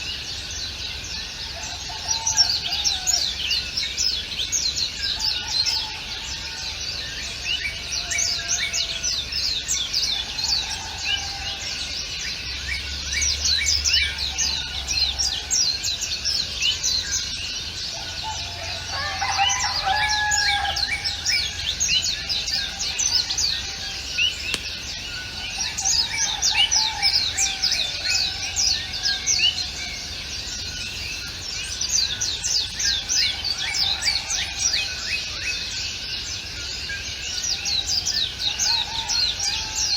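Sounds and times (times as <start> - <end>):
lower longer bird calls: 0.0 - 39.9
small birds chirping: 0.0 - 39.9.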